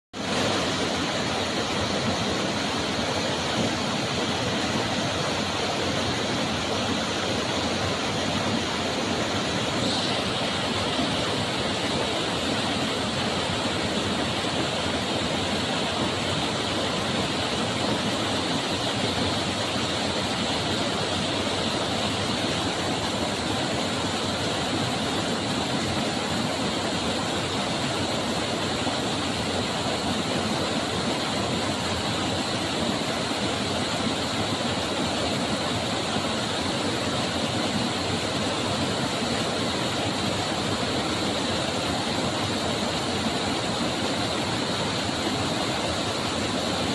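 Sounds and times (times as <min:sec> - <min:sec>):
water rushing: 0:00.2 - 0:46.9.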